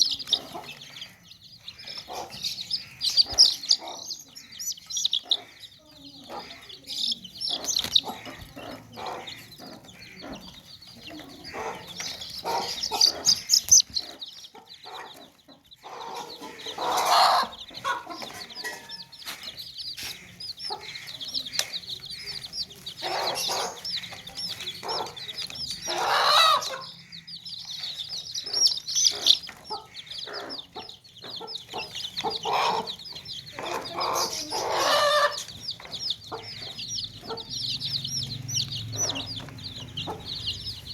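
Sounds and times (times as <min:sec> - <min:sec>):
chicks peeping: 0:00.0 - 0:40.9
hens clucking: 0:00.0 - 0:40.9.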